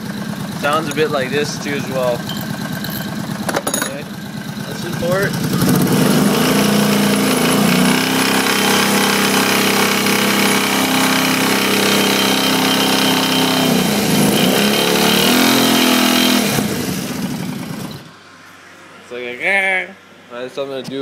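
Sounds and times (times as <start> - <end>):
atv engine running with rattle: 0.0 - 18.1.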